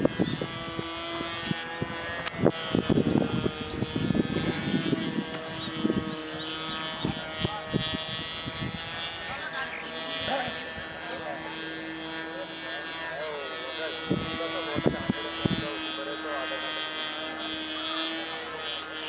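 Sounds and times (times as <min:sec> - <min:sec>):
model plane engine buzzing: 0:00.0 - 0:19.0.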